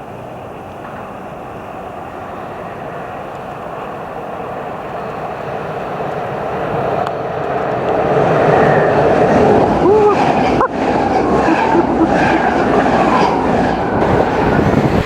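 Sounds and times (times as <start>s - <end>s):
train approaching on track: 0.0s - 15.0s.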